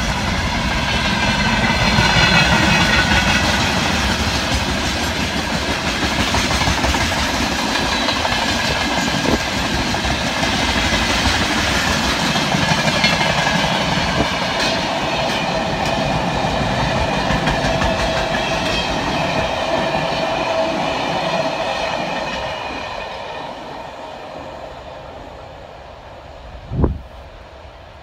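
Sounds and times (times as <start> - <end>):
freight train wheels clattering: 0.0 - 23.4.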